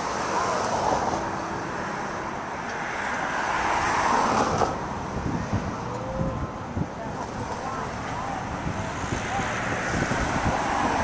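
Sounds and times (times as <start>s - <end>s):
cars going by: 0.0s - 11.0s.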